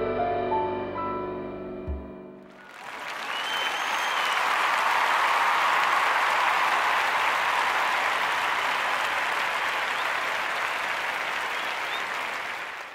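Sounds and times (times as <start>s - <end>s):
audience applause: 2.5s - 12.9s.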